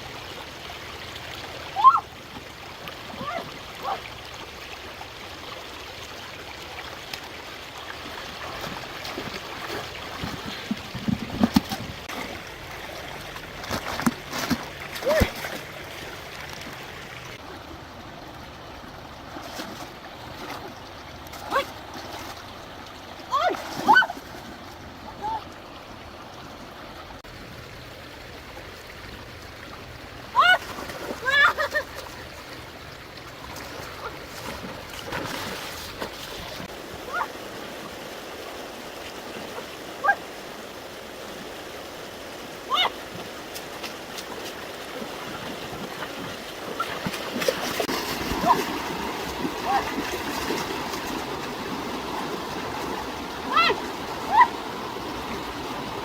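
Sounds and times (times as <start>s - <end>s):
faint water splashes: 0.0s - 56.0s
stream water flowing: 0.0s - 56.0s.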